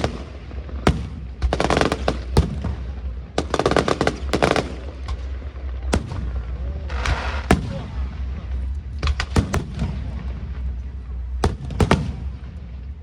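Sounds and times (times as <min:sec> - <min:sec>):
fireworks crackling: 0:00.0 - 0:13.0
fireworks sharp bangs: 0:00.0 - 0:13.0.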